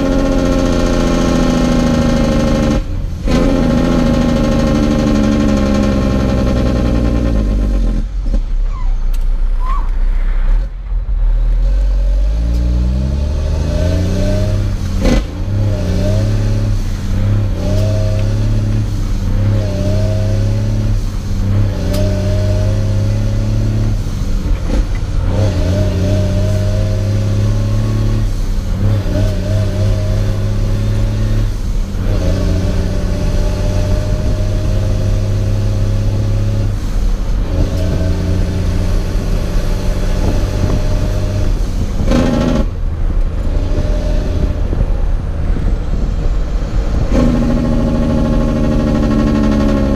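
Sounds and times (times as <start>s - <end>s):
truck diesel engine: 0.0s - 49.9s.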